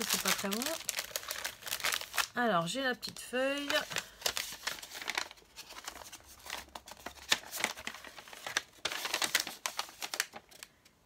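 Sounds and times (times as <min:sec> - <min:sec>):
paper crinkling and rustling: 0:00.0 - 0:02.4, 0:03.5 - 0:10.8.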